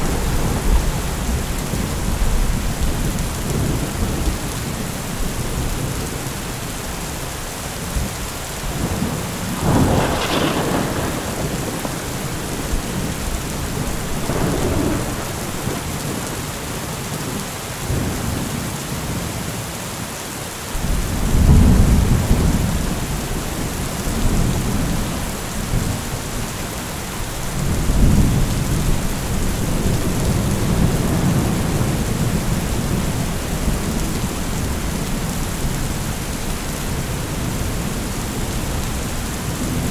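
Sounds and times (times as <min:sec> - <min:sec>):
thunder cracking and rumbling: 0:00.0 - 0:06.6, 0:07.8 - 0:17.3, 0:20.8 - 0:39.9
heavy rain: 0:00.0 - 0:39.9.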